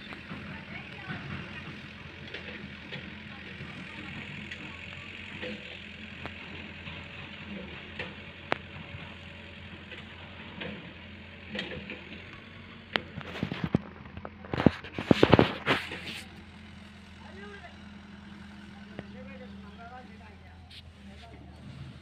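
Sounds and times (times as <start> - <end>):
distant engine hum: 0.0 - 22.0.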